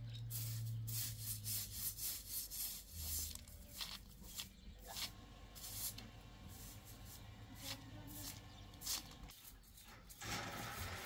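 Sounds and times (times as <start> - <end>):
broom sweeping oven: 0.0 - 11.0.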